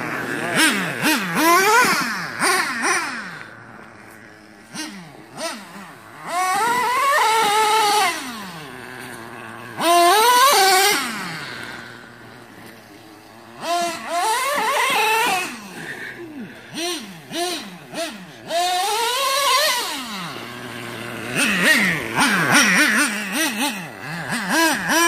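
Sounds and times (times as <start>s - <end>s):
model engine revving: 0.0s - 25.0s.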